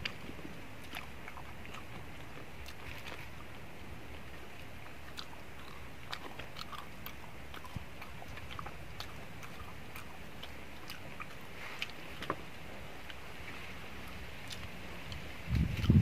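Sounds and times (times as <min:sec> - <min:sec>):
low background rumble: 0:00.0 - 0:16.0
person chewing food: 0:00.0 - 0:16.0.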